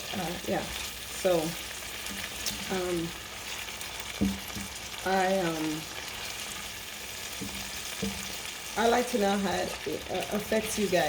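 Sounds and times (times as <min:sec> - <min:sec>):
frying sizzle in a pan: 0:00.0 - 0:11.0.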